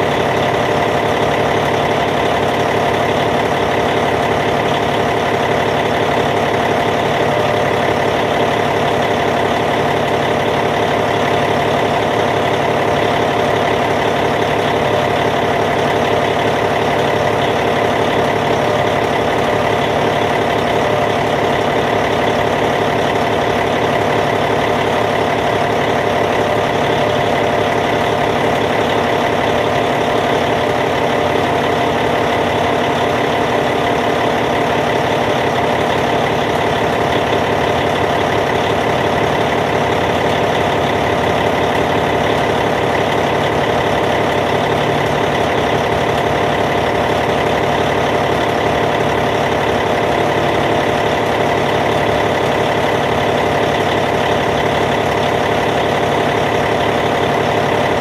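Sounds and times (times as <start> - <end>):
bulldozer diesel engine idling: 0.0 - 58.0.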